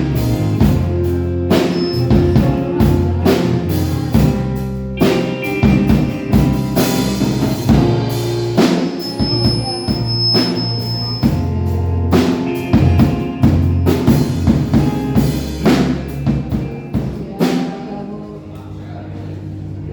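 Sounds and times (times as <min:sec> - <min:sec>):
band playing: 0:00.0 - 0:18.6.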